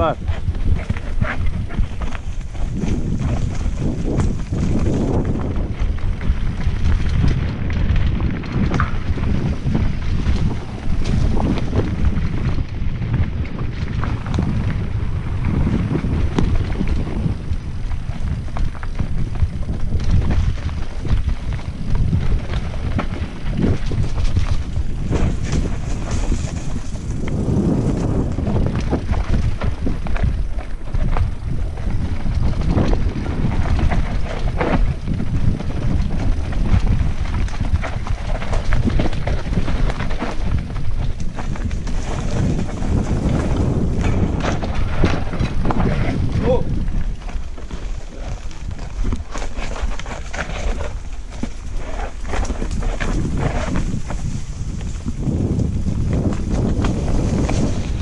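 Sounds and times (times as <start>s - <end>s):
bike knocks and rattles: 0.0s - 58.0s
tyres rolling on dirt: 0.0s - 58.0s
wind buffeting microphone: 0.0s - 58.0s.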